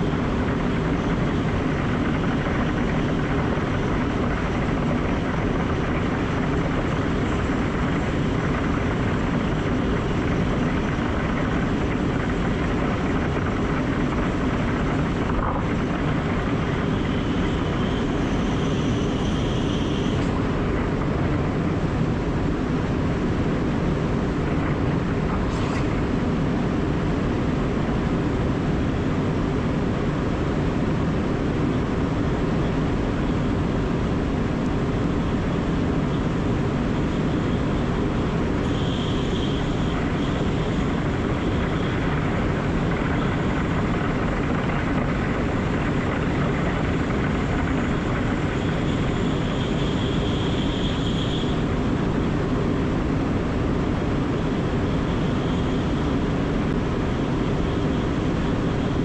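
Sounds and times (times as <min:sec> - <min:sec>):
faint high whine: 0:00.0 - 0:59.0.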